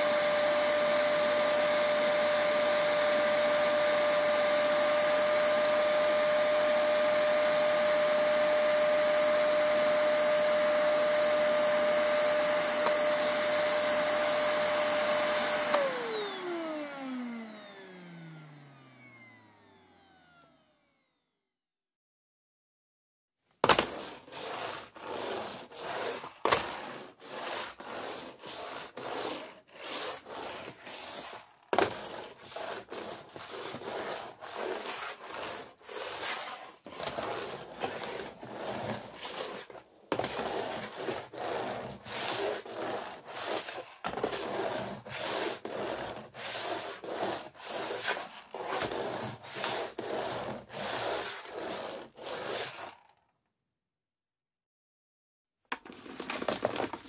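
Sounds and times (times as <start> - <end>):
vacuum nozzle scraping across floor: 0.0 - 19.8, 23.7 - 53.2.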